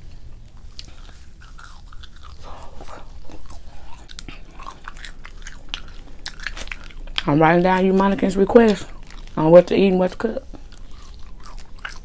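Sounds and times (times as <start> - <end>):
chewing and crunching food: 0.1 - 12.0.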